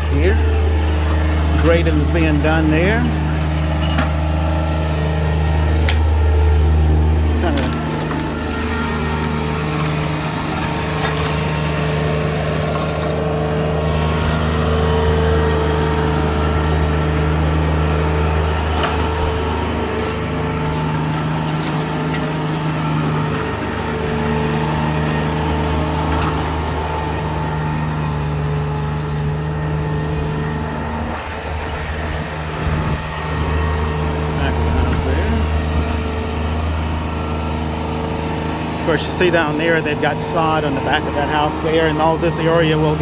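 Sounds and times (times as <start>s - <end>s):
earth-moving equipment engine humming: 0.0s - 43.0s.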